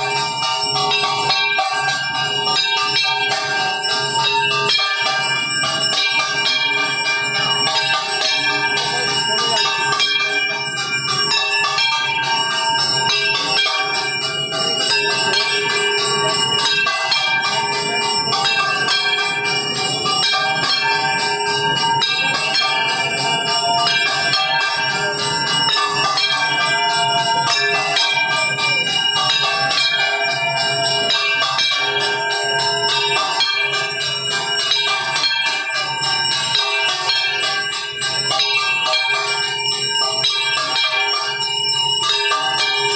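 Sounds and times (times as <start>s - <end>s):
temple bells ringing: 0.0s - 42.9s.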